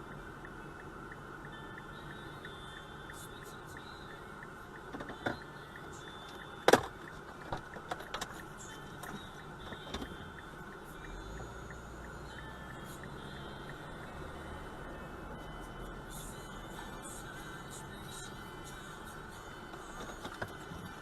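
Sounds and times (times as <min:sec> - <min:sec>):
car interior noise: 0:00.0 - 0:21.0.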